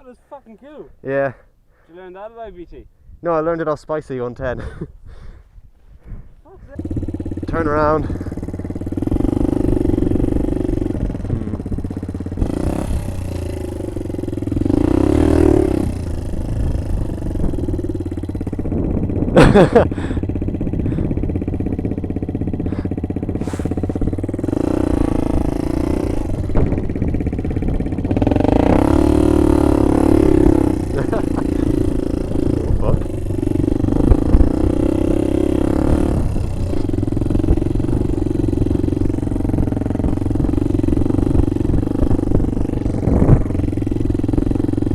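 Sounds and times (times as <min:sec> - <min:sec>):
small motorbike engine revving: 0:06.6 - 0:44.9.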